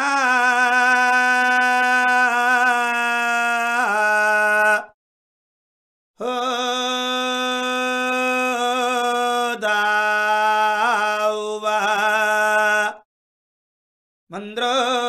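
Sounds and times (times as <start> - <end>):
person chanting: 0.0 - 5.0, 6.2 - 13.1, 14.3 - 15.0.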